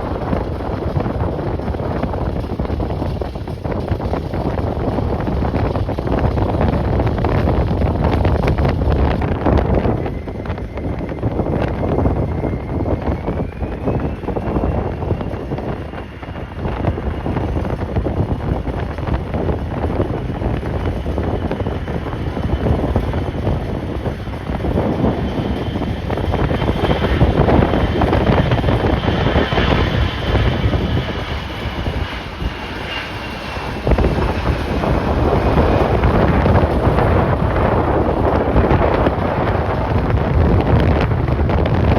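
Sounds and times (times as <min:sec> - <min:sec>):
jet engines whining: 0:00.0 - 0:41.9
wind buffeting microphone: 0:00.0 - 0:41.9.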